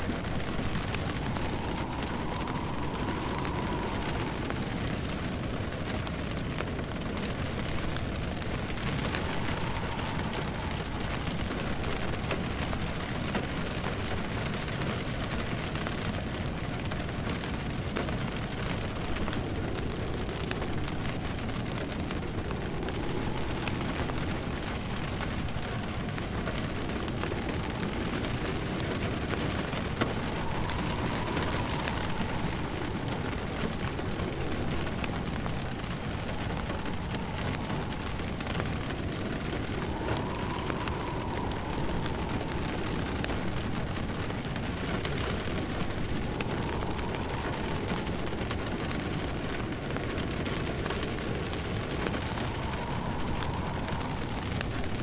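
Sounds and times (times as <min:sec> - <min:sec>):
faint wind whistle: 0:00.0 - 0:55.0
fireplace fire crackling: 0:00.0 - 0:55.0
steady rain falling: 0:00.0 - 0:55.0.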